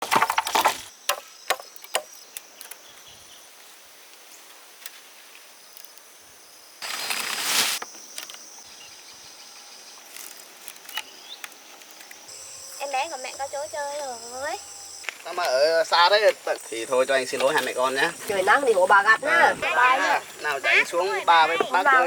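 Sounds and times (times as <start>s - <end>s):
insects buzzing: 0.1s - 22.0s.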